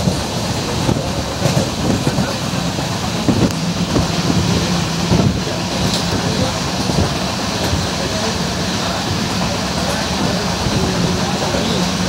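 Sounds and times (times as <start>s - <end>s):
train rumbling: 0.0s - 12.0s
wheels knocking on track: 0.0s - 12.0s.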